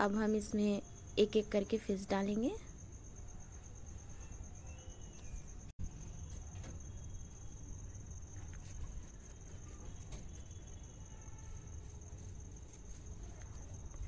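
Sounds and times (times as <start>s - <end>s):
cricket trilling: 0.0s - 14.0s.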